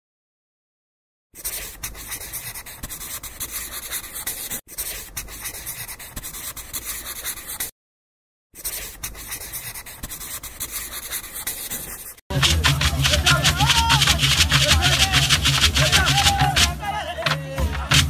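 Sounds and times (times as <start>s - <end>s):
marker scribbling on paper: 1.4s - 7.7s, 8.6s - 16.7s.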